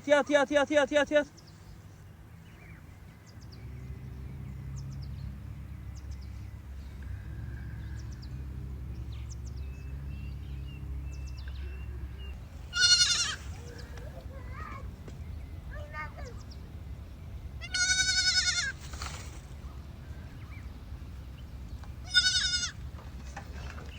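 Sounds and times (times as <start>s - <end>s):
small birds chirping: 0.0s - 23.9s
steady low rumble: 1.5s - 23.9s.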